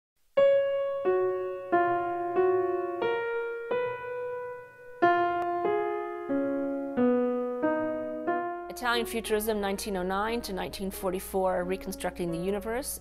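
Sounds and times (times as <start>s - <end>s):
slow piano-like keyboard notes: 0.4s - 13.0s.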